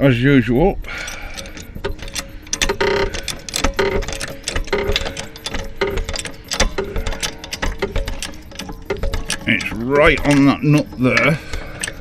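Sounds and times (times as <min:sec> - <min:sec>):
metal hand tools clinking: 0:00.9 - 0:12.0.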